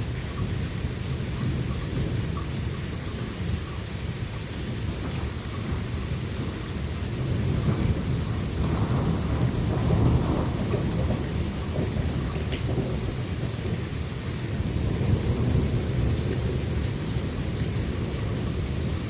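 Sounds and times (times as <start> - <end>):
low rumble of thunder: 0.0 - 19.0
steady rain: 0.0 - 19.0.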